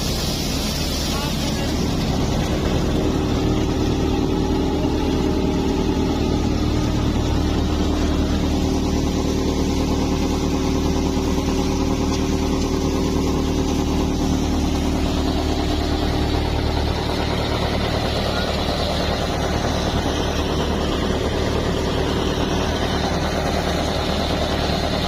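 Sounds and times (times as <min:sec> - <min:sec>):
thresher mechanical drone: 0:00.0 - 0:25.0
tractor engine running: 0:00.0 - 0:25.0.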